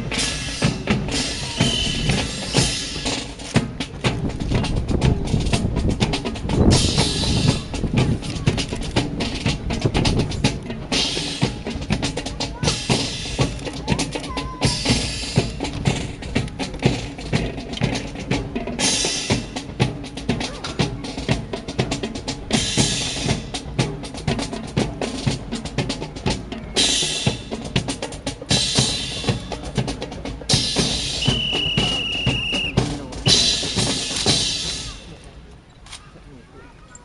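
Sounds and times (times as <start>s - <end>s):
snare and bass drum rhythm: 0.0s - 35.5s.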